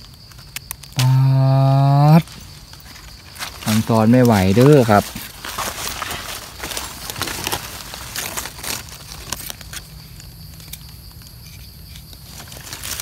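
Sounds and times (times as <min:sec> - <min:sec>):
dry leaves rustling and crackling: 0:02.2 - 0:13.0.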